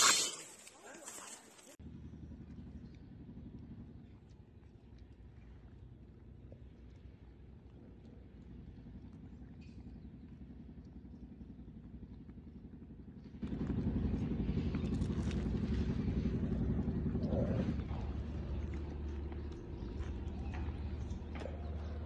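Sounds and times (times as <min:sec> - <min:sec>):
motor vehicle engine running: 0:01.8 - 0:22.0.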